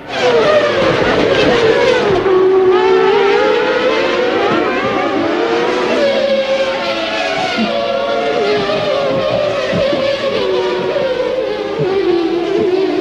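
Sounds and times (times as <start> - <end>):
racing car engines at high revs: 0.0 - 13.0.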